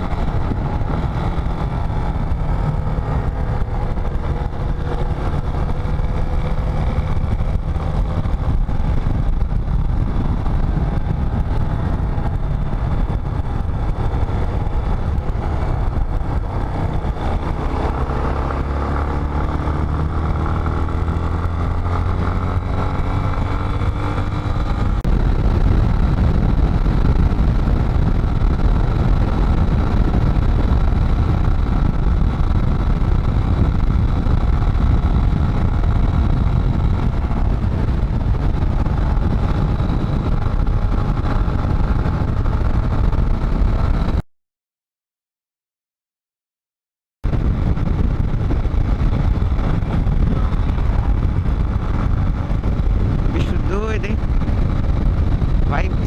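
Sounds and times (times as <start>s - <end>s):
motorcycle engine: 0.0s - 44.2s, 47.2s - 56.0s
wind rush on microphone: 0.0s - 44.2s, 47.2s - 56.0s.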